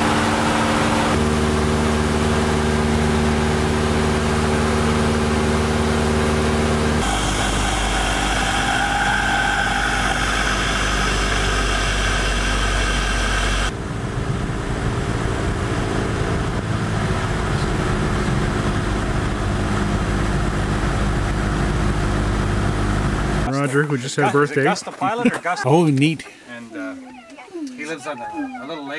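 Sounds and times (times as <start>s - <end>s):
plane engine and propeller: 0.0s - 23.5s.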